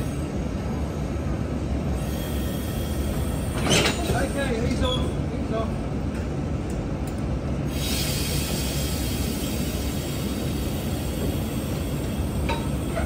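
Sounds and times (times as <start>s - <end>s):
train equipment low rumble: 0.0s - 13.0s.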